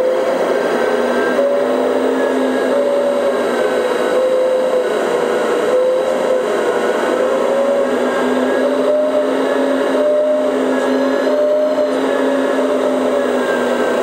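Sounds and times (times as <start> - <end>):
hydraulic pump whining: 0.0 - 14.0.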